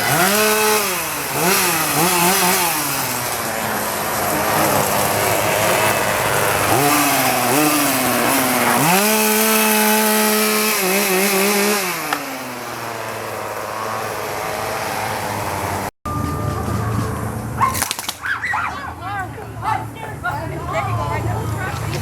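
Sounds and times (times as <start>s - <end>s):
chainsaw engine revving: 0.0s - 18.2s.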